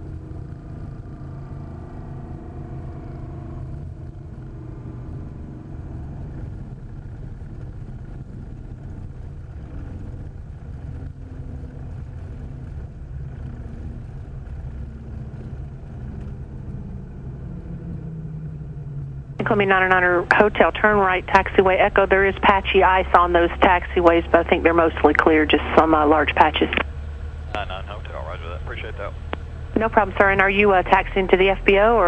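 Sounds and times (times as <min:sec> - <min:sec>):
aircraft engine low drone: 0:00.0 - 0:32.0.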